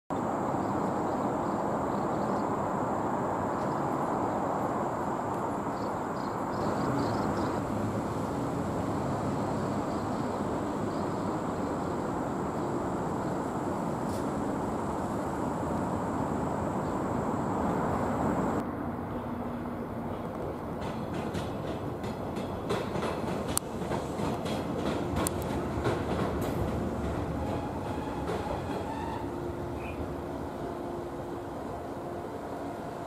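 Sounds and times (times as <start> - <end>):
rail yard mechanical rumble: 0.2 - 33.0.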